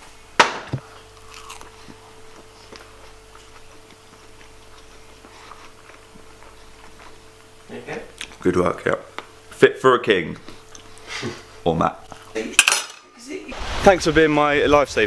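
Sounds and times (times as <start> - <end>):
microwave oven humming: 0.0 - 13.4.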